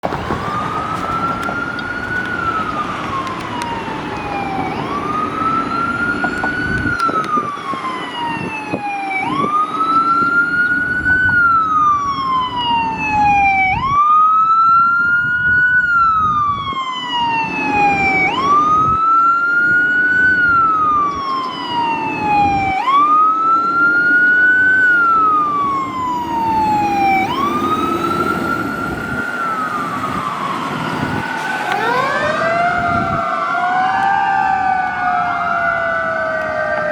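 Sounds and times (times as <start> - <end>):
fire truck siren wailing: 0.0 - 36.9.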